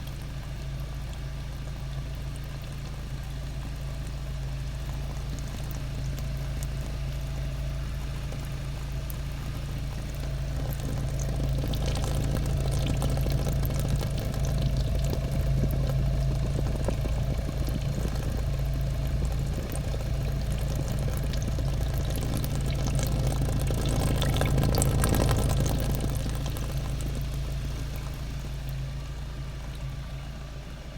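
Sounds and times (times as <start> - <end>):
car engine idling: 0.0 - 30.9
unusual exhaust noise: 0.0 - 30.9.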